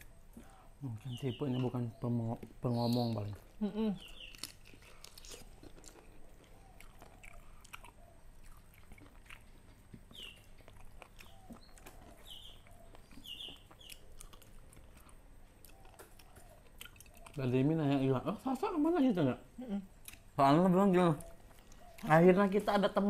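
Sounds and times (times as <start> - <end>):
people chewing and eating: 0.0 - 23.0.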